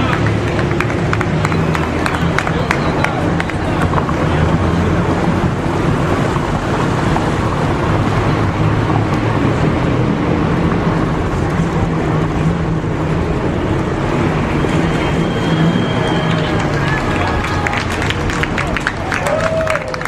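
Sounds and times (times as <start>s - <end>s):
car engine running: 0.0s - 20.0s
road noise: 0.0s - 20.0s.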